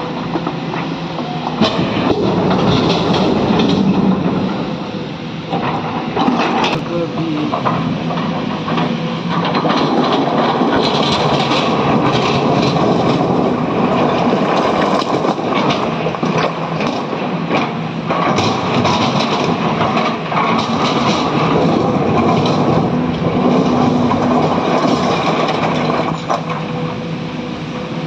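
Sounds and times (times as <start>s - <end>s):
excavator engine drone: 0.0s - 28.0s
clattering and knocking of load: 0.1s - 26.9s.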